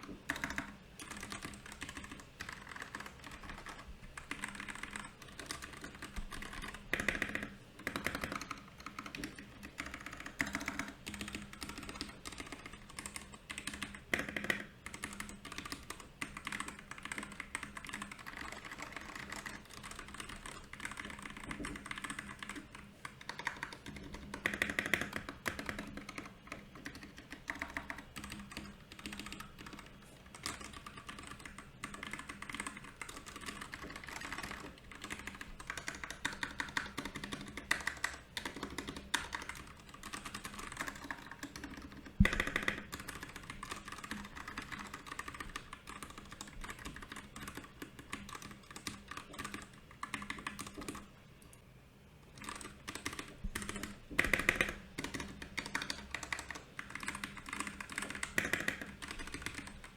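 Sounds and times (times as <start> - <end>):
fast typing on mechanical keyboard: 0.0 - 51.1, 52.4 - 59.9.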